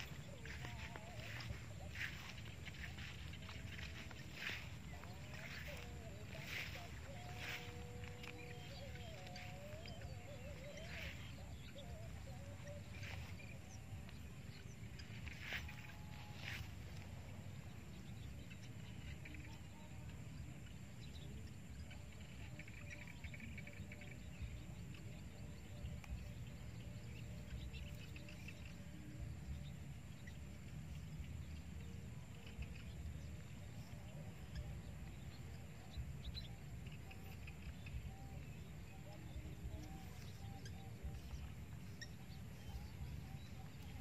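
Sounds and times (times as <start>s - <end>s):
faint bird chirps: 0.0s - 44.0s
thin steady high tone: 0.0s - 44.0s
wind rumble on microphone: 0.0s - 44.0s.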